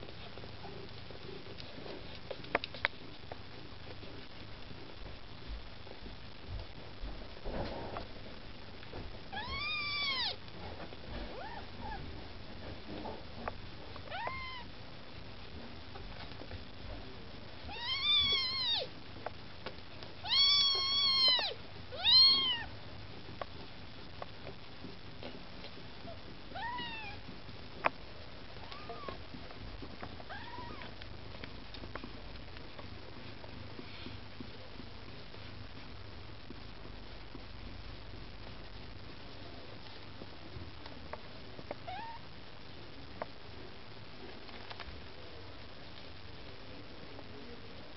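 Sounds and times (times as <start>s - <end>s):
clicks and rustles of kittens moving: 0.0s - 14.7s, 15.5s - 42.2s, 43.0s - 46.4s.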